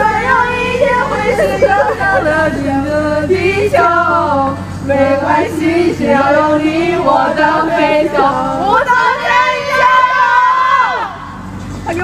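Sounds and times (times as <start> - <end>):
women singing in chorus: 0.0 - 11.4.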